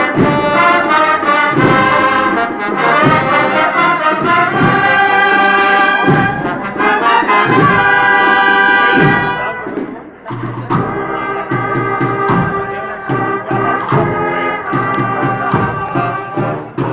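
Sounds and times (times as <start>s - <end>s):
brass band playing march: 0.0s - 16.9s.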